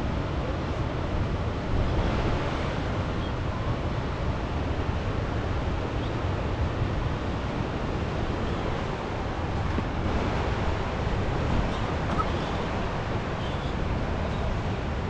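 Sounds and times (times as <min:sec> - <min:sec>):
river rushing in flood: 0:00.0 - 0:15.0.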